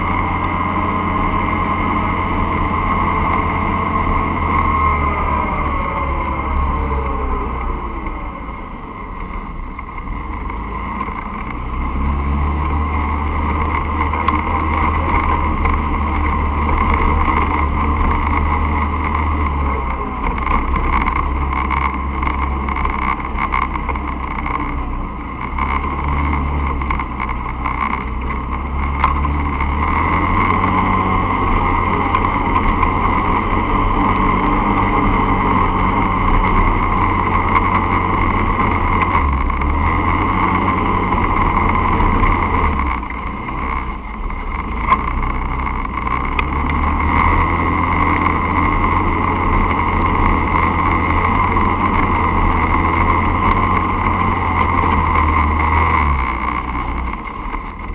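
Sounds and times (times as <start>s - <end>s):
dirt bike engine: 0.0s - 57.9s.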